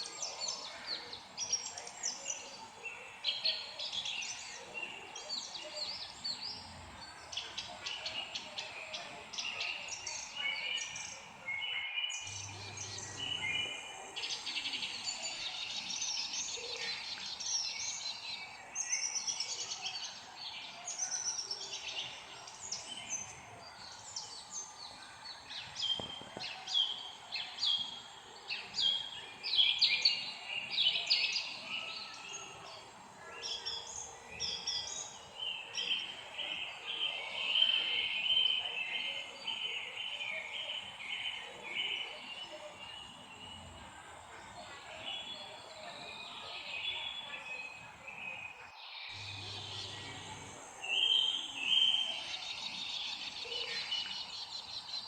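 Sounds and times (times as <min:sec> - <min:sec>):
birds chirping in chorus: 0:00.0 - 0:55.0.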